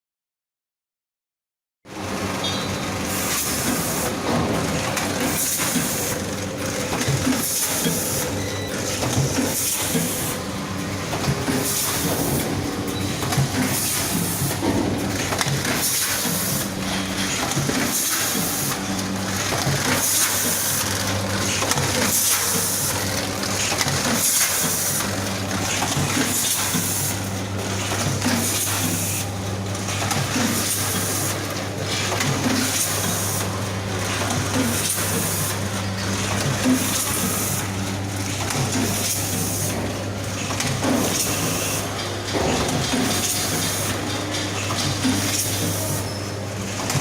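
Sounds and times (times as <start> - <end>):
packaging machine humming: 1.9 - 47.0.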